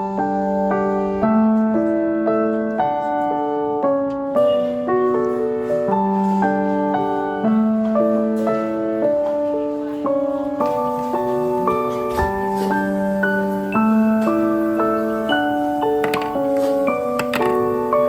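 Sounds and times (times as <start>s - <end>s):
soft piano music: 0.0s - 18.0s.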